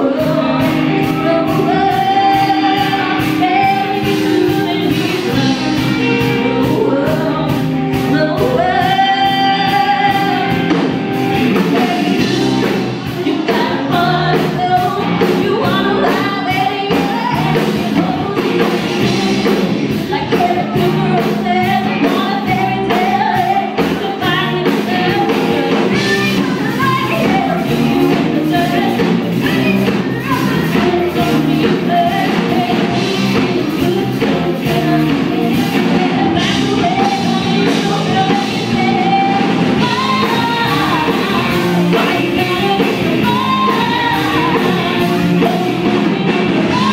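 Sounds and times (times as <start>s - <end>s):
drums: 0.0s - 46.9s
electric and acoustic guitars: 0.0s - 46.9s
woman singing: 0.0s - 46.9s.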